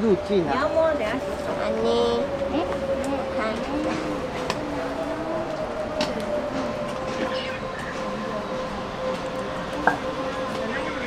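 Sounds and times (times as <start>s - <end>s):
faint voices: 0.0s - 11.0s
train whine and rumble: 0.0s - 11.0s.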